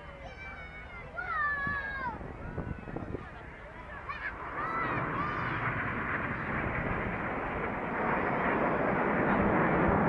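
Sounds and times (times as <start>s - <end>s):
jet aircraft rushing past: 1.8s - 10.0s.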